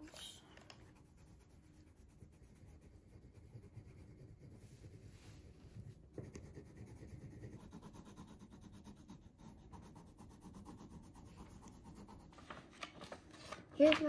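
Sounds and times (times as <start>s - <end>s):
pencils scratching on paper: 0.0s - 12.4s, 13.3s - 14.0s.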